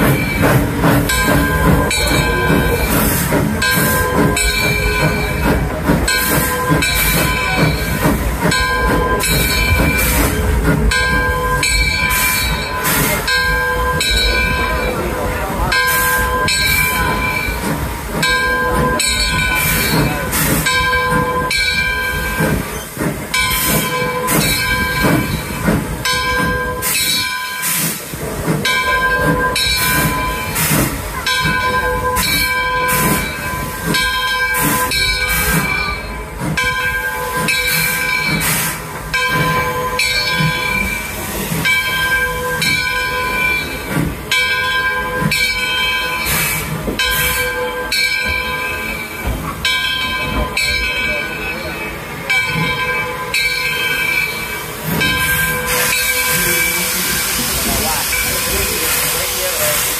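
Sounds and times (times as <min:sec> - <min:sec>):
steam locomotive exhaust chuffs: 0:00.0 - 0:59.9.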